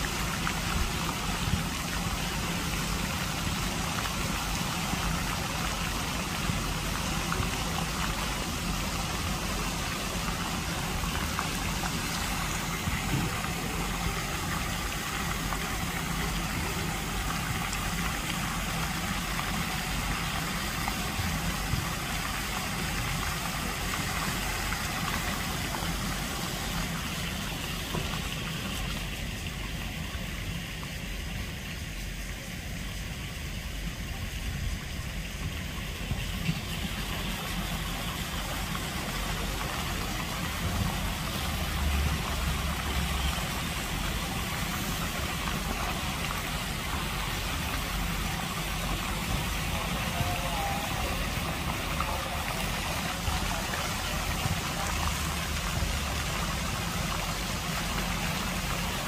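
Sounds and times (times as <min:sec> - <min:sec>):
fountain jets splashing on water: 0:00.0 - 0:59.0.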